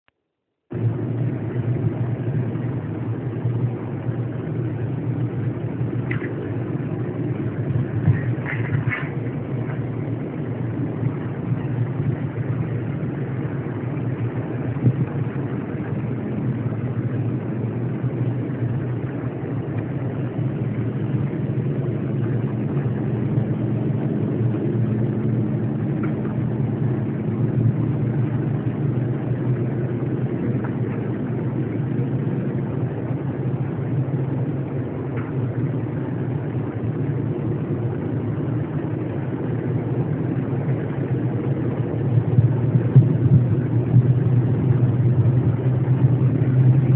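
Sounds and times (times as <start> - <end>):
low droning rumble: 0.6 - 46.9.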